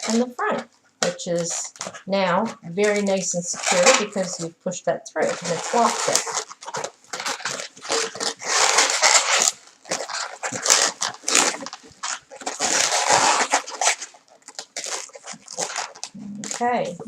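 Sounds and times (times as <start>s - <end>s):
balloons squeaking and rubbing: 0.0s - 17.0s.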